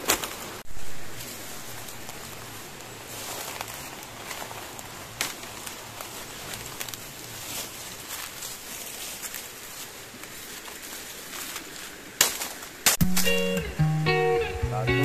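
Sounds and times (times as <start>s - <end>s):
footsteps crunching dry leaves: 0.0s - 13.6s
twigs cracking: 0.0s - 13.6s.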